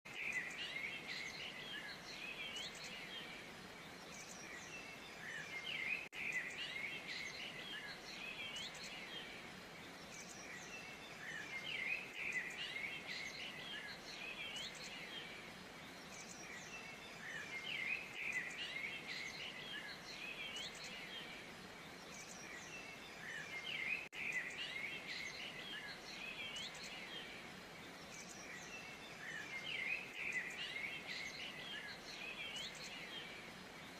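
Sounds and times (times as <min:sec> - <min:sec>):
faint steady hiss: 0:00.1 - 0:33.9
small birds chirping: 0:00.1 - 0:33.9.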